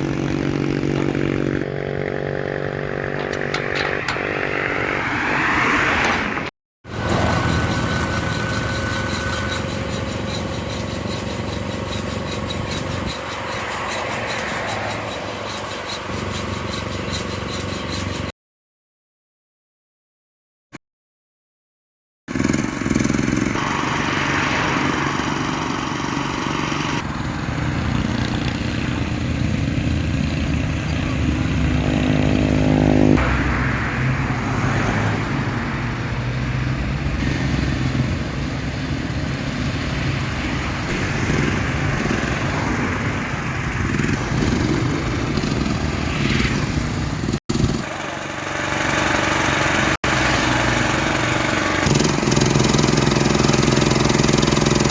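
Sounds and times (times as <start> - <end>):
engine running: 0.0 - 18.3, 22.3 - 54.9.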